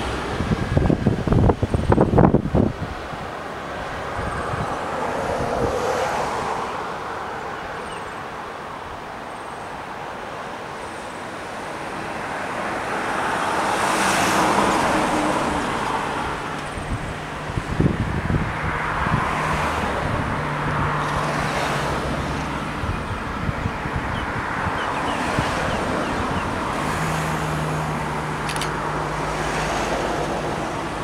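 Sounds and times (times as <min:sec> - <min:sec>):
passing vehicles: 0:00.0 - 0:31.0.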